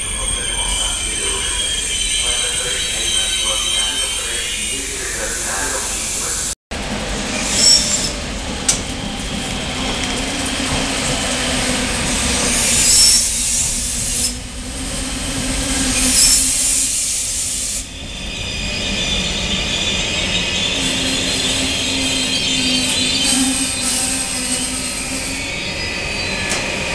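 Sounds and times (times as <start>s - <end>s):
wheel squeal: 0.0s - 6.5s, 7.1s - 26.9s
train rumbling past: 0.0s - 26.9s.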